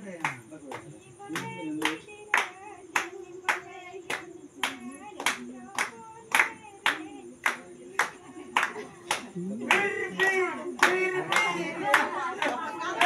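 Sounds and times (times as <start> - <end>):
sharp hand claps: 0.1 - 13.0
group of voices singing: 0.8 - 13.0.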